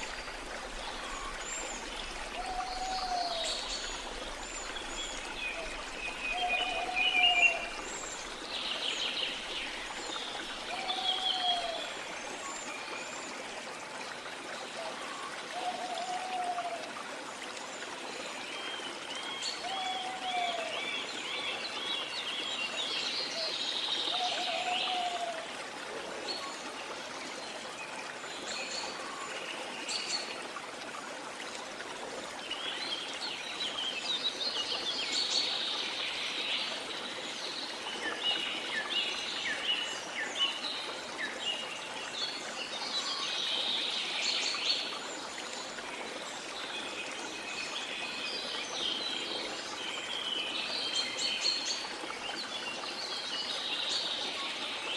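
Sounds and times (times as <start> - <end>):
songbirds chirping and twittering: 0.0 - 30.6, 31.4 - 54.9.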